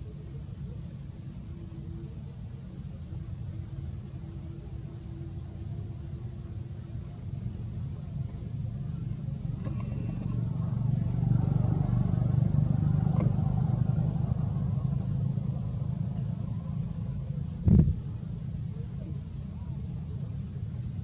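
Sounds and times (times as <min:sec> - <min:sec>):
passing vehicle engine rumble: 0:00.0 - 0:21.0.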